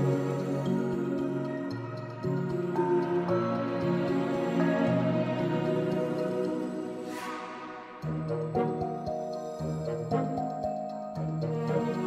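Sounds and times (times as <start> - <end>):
calm music of held notes: 0.0 - 12.0.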